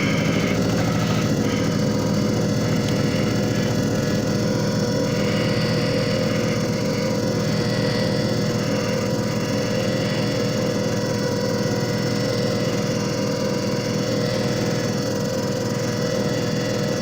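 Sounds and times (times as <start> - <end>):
disc repair machine motor humming: 0.0 - 17.0.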